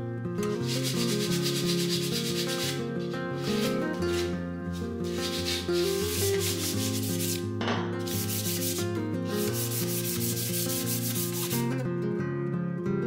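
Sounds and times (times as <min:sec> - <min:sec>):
background music with held notes: 0:00.0 - 0:13.0
sandpaper rubbing metal: 0:00.5 - 0:11.7.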